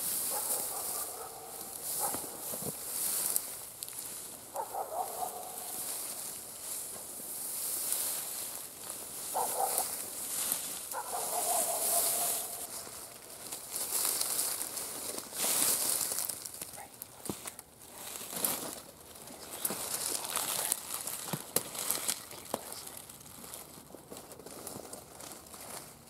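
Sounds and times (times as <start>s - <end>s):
footsteps through dry grass: 0.0s - 26.0s.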